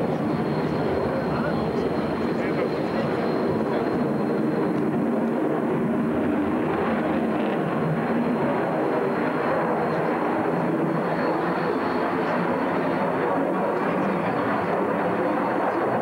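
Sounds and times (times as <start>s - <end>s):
jet flying overhead: 0.0s - 16.0s.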